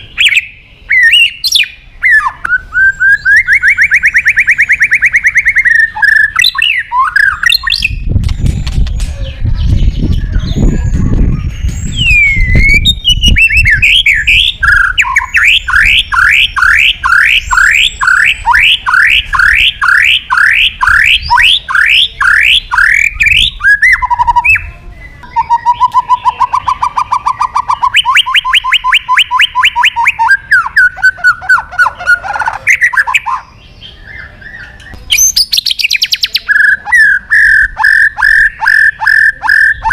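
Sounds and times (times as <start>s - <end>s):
bird singing whistled phrases: 0.0s - 8.1s, 9.0s - 39.9s.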